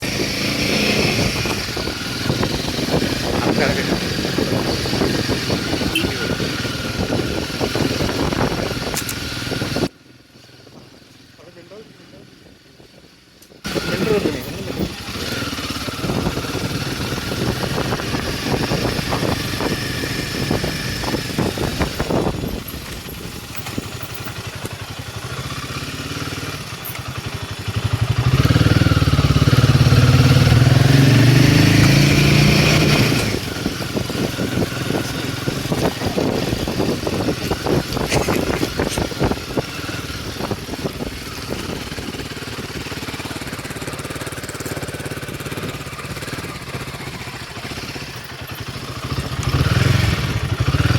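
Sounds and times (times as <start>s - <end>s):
motorcycle engine throbbing: 0.0s - 10.0s, 12.5s - 50.9s.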